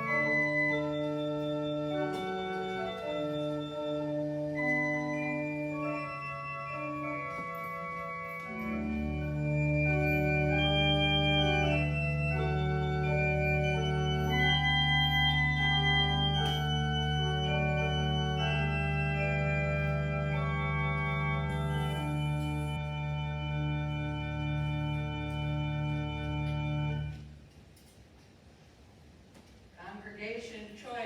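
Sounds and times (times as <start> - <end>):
church organ chords: 0.0 - 27.4.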